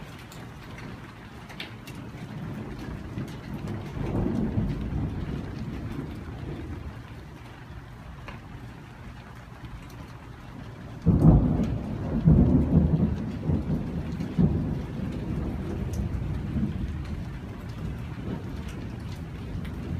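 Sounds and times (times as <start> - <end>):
thunder clap rolling: 0.0 - 8.8, 10.7 - 19.9
steady rain: 0.0 - 19.9.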